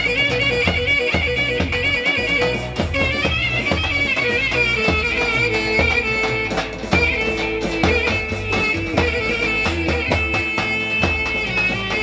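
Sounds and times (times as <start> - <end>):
clarinet playing fast melody: 0.0 - 12.0
steady drum beat: 0.0 - 12.0.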